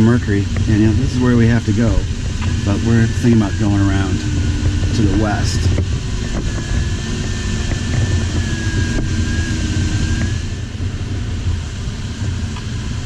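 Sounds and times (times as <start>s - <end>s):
airflow rushing over canopy: 0.0s - 13.0s.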